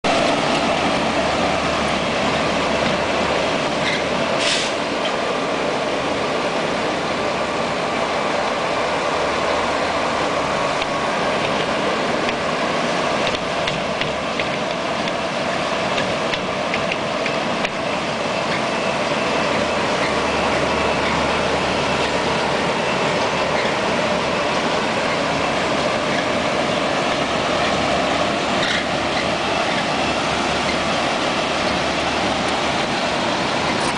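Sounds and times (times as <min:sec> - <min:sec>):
milling machine grinding pavement: 0:00.1 - 0:33.9.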